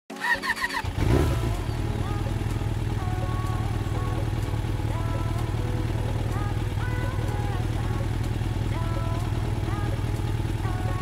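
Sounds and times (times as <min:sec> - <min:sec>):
motorcycle engine idling: 0:00.4 - 0:11.0.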